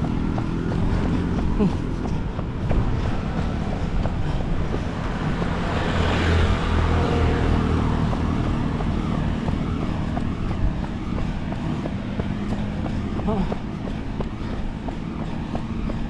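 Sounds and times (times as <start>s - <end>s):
road vehicle passing: 0.0s - 16.0s
traffic rumble: 0.0s - 16.0s.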